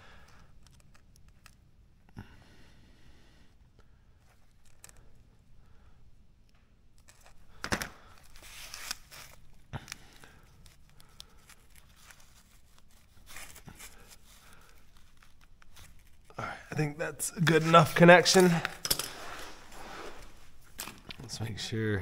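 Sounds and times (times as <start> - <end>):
rustles of wire and plastic: 0.0 - 2.1, 4.2 - 5.5, 6.4 - 21.4.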